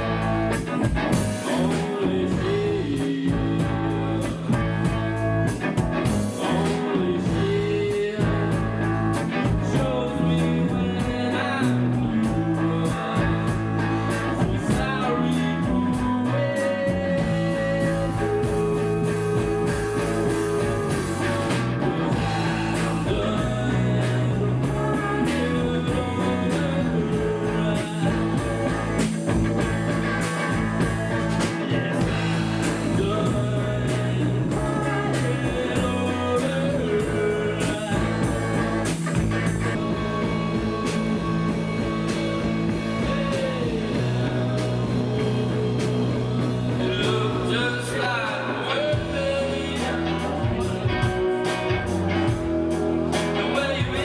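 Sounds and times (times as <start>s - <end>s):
bass guitar: 0.0s - 54.0s
drum kit: 0.0s - 54.0s
electric guitar: 0.0s - 54.0s
person singing: 0.0s - 54.0s.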